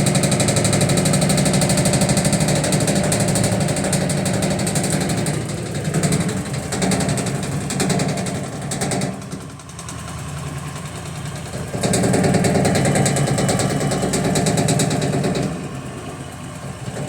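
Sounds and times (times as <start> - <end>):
washing machine rattling and knocking: 0.1 - 10.0, 11.6 - 15.6.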